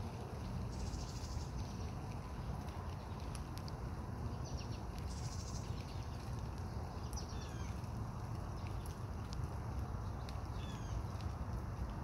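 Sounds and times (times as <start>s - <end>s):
outdoor hiss and low rumble: 0.0s - 12.0s.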